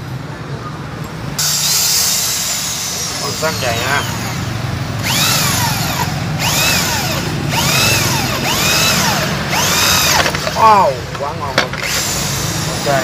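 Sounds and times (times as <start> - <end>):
hammer drill boring through steel: 1.4 - 11.0, 11.6 - 13.0.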